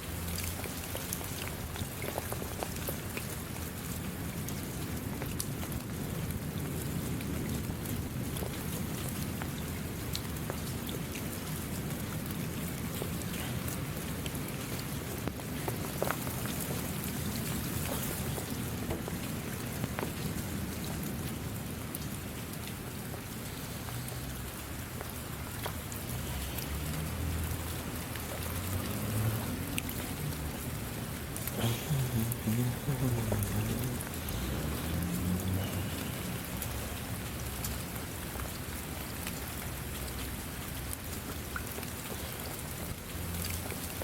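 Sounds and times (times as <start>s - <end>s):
rain hissing: 0.0s - 44.0s
raindrops ticking: 0.0s - 44.0s.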